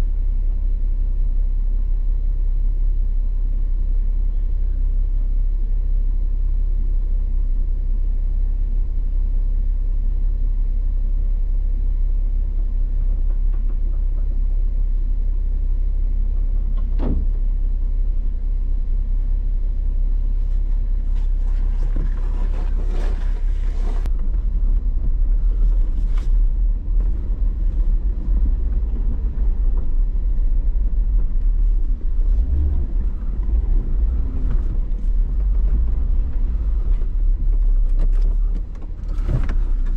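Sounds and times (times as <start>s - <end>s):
vehicle driving rumble: 0.0s - 39.9s.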